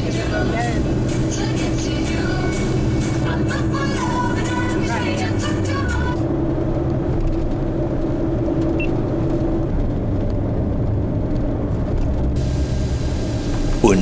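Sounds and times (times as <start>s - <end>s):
car engine and road rumble: 0.0s - 14.0s
hum: 0.0s - 14.0s.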